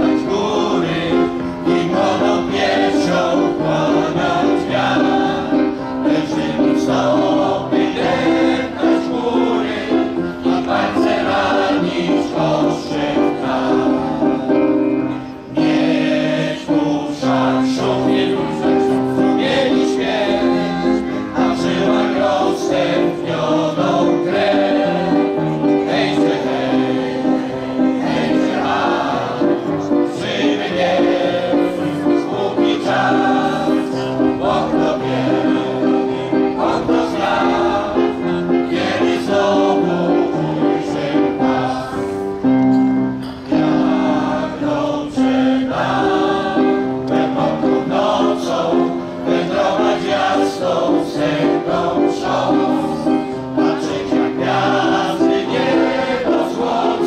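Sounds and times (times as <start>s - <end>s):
crowd singing in unison: 0.0s - 57.0s
electronic keyboard: 0.0s - 57.0s.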